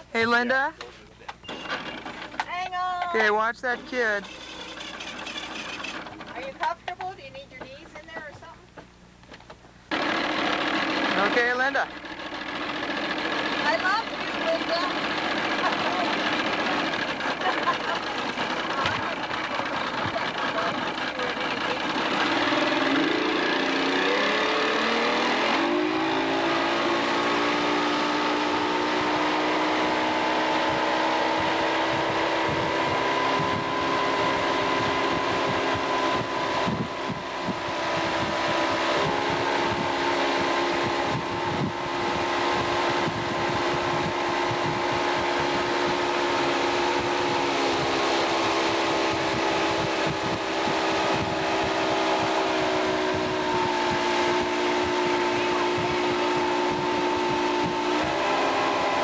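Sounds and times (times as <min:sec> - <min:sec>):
boat engine revving: 0:00.0 - 0:08.6, 0:09.9 - 0:59.0
wind and water rushing: 0:09.9 - 0:59.0.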